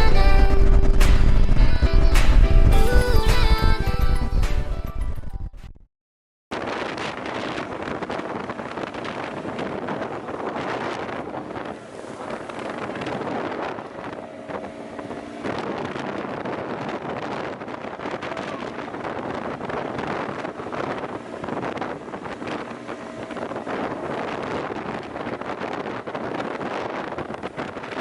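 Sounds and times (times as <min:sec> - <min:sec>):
boat engine drone: 0:00.0 - 0:04.4, 0:06.6 - 0:28.0
wind buffeting microphone: 0:00.0 - 0:05.3, 0:06.5 - 0:28.0.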